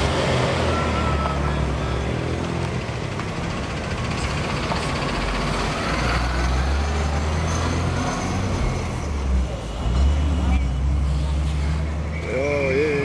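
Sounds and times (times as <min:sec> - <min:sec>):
road noise: 0:00.0 - 0:13.0
vehicle engines idling and pulling away: 0:00.0 - 0:13.0.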